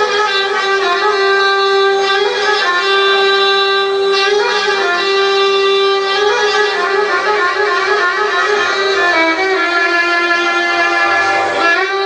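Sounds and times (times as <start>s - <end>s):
belly dance music with violin: 0.0s - 12.0s.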